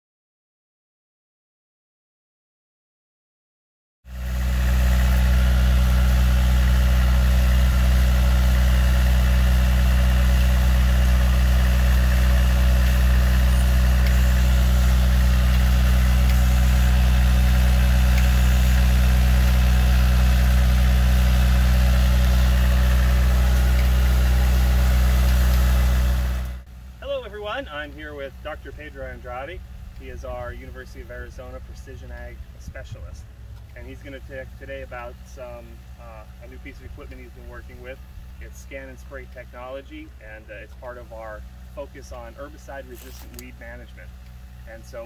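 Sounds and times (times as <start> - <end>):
tractor engine running: 4.1 - 45.0.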